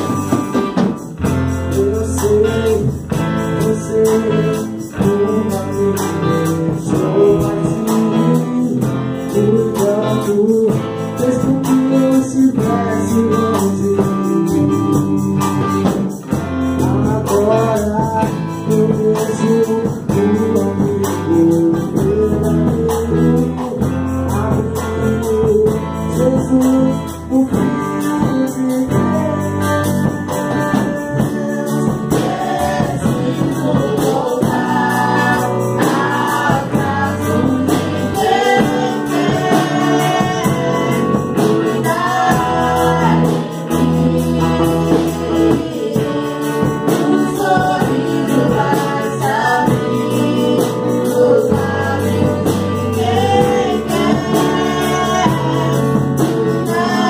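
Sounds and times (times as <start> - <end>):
group singing into microphones: 0.0 - 57.0
strummed guitars with steady beat: 0.0 - 57.0.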